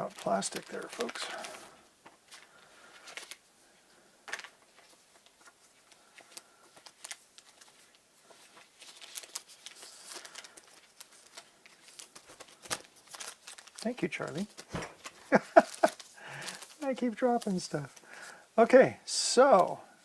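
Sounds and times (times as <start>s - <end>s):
plastic packaging crackling: 0.0s - 19.8s.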